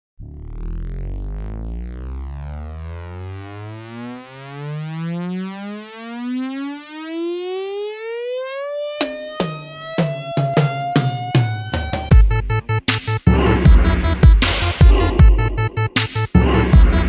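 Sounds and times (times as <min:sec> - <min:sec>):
synthesized rising sweep: 0:00.2 - 0:17.0.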